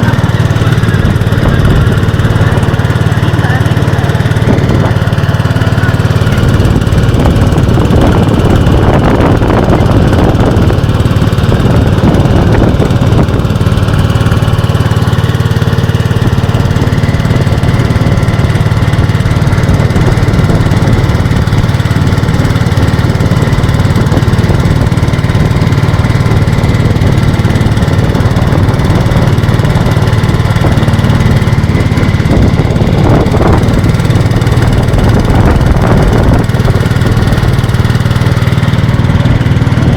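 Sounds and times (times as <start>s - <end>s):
vehicle engine running loudly: 0.0s - 39.9s.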